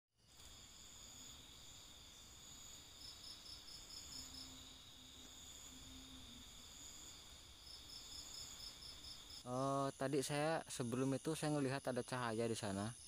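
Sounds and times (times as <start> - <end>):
cricket chirping in quick pulses: 0.2 - 13.0
crickets trilling: 0.2 - 13.0.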